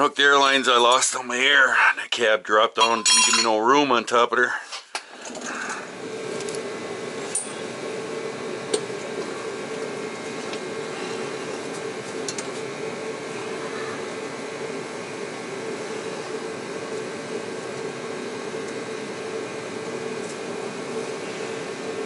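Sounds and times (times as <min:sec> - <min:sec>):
machine whirring hum: 0:00.0 - 0:22.0.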